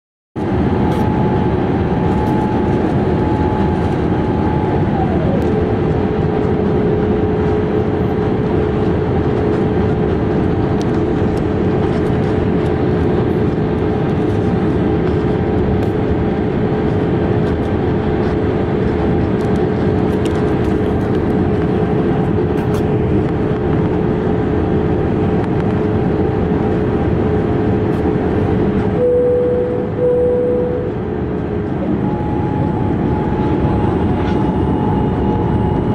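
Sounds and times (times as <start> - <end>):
rush of airflow and engines: 0.4 - 35.9
steady whine: 0.4 - 35.9.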